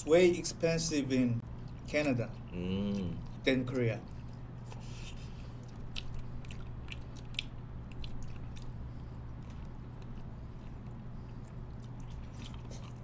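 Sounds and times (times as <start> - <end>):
chewing and biting food: 1.5 - 13.0.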